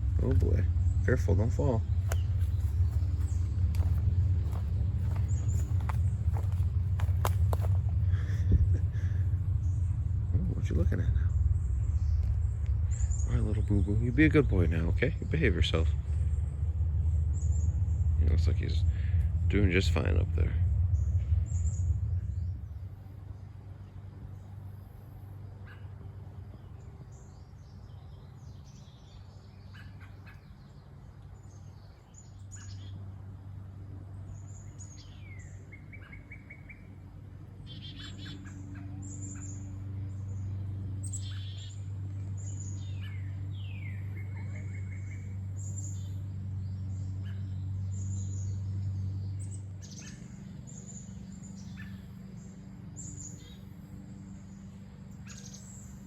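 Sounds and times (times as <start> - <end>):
birds chirping: 0.0 - 56.0
steady low hum: 0.0 - 56.0.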